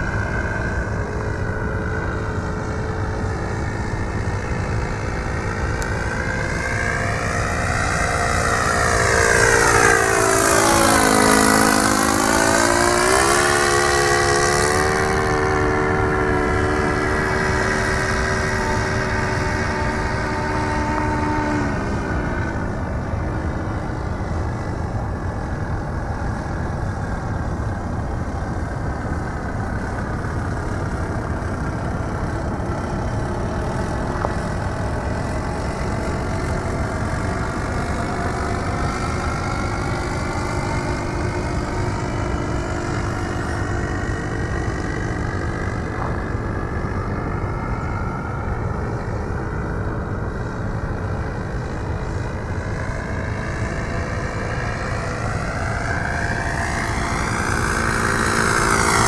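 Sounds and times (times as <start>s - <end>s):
model aircraft motor droning: 0.0s - 59.0s
steady low rumble: 0.0s - 59.0s.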